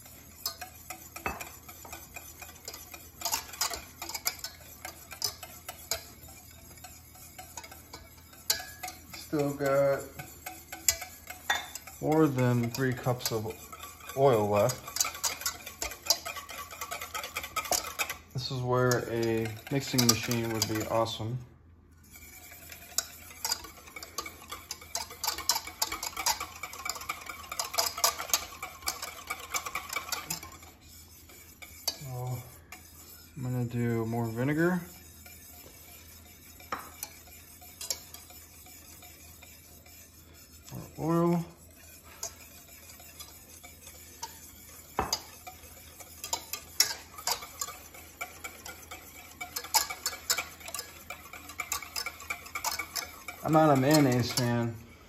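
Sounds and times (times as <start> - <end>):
whisk clicking against steel pot: 0.0 - 21.4, 22.0 - 54.9.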